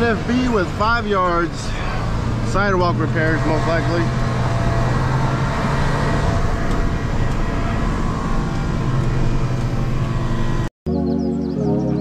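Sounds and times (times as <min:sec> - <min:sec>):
diesel engine humming: 0:00.0 - 0:12.0
road noise: 0:00.0 - 0:12.0.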